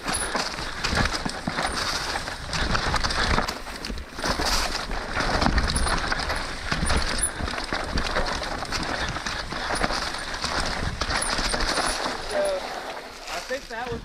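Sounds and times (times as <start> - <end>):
chain and frame clatter: 0.0 - 13.4
bike tyres rushing over dirt: 0.0 - 14.0
wind noise: 0.0 - 14.0.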